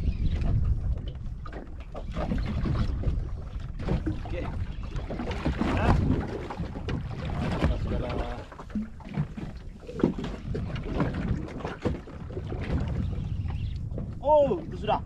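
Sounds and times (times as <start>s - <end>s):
water against hull: 0.0s - 15.0s
wind buffeting microphone: 0.0s - 15.0s.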